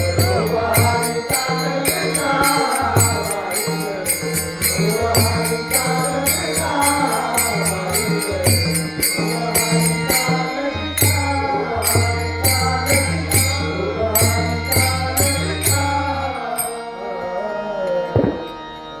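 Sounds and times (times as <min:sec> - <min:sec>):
metal cymbals beating: 0:00.0 - 0:16.8
man chanting a melody: 0:00.0 - 0:18.5
low sustained accompaniment: 0:00.0 - 0:19.0.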